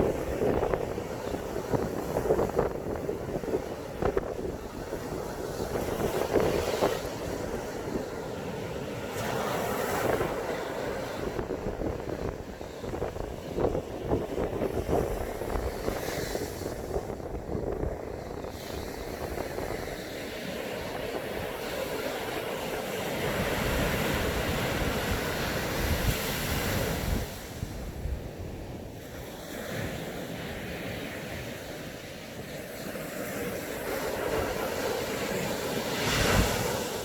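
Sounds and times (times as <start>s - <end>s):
wind buffeting microphone: 0.0s - 31.5s
ocean surf breaking on beach: 0.0s - 37.0s.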